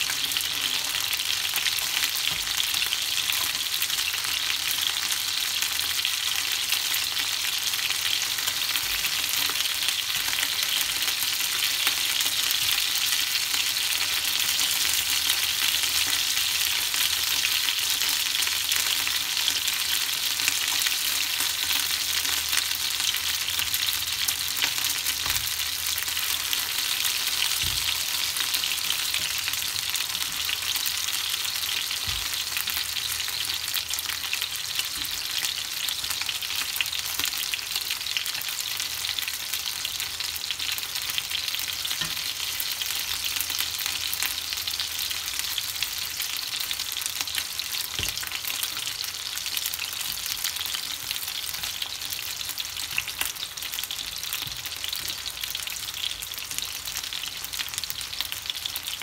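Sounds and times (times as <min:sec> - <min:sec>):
chicken wings sizzling in oil: 0:00.0 - 0:59.0.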